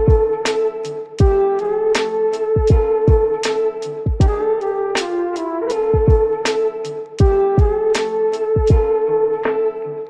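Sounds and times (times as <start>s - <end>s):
instrumental music with kick drum: 0.0s - 10.0s.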